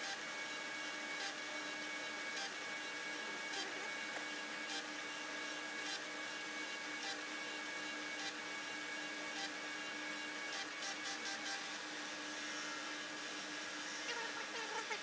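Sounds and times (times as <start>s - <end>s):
lathe motor hum: 0.0s - 15.0s.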